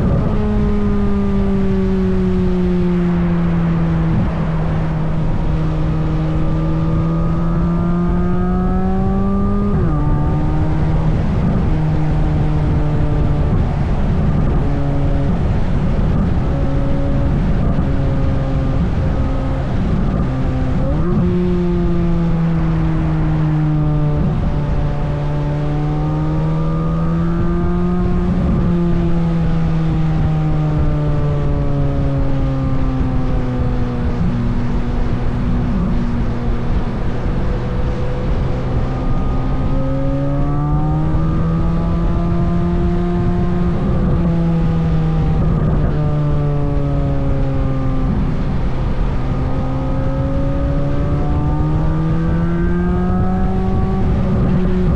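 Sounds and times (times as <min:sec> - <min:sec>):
car engine on trailing throttle: 0:00.0 - 0:54.9.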